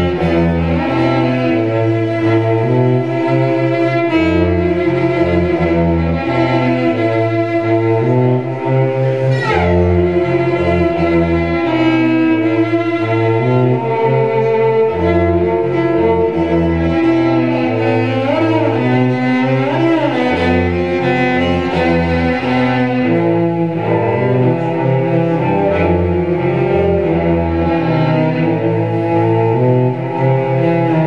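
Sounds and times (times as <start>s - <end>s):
bowed cello: 0.0s - 31.0s.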